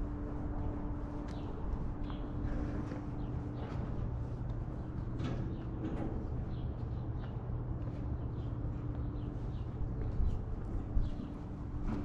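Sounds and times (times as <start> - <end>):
steady low hum: 0.0 - 12.0
small birds chirping: 1.2 - 11.8.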